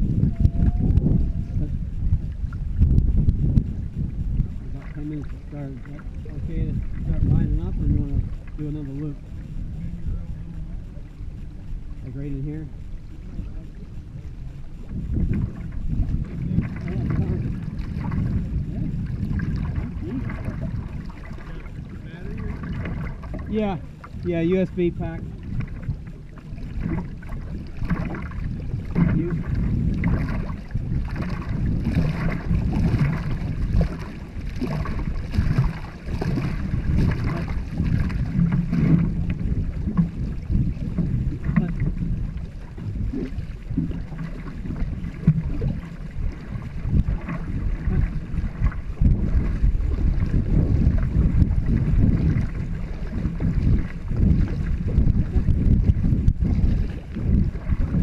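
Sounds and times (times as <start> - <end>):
wind rumbling on microphone: 0.0 - 58.0
paddles splashing water: 1.5 - 58.0.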